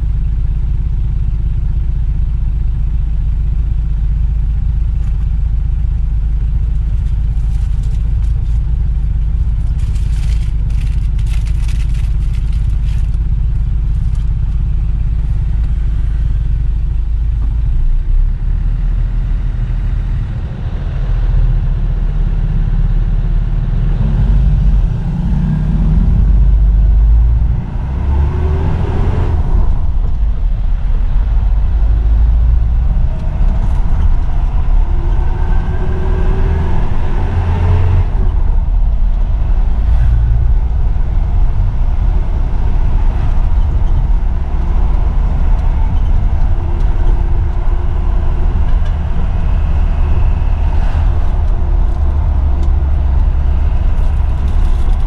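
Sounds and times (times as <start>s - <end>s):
diesel engine accelerating: 0.0s - 55.0s.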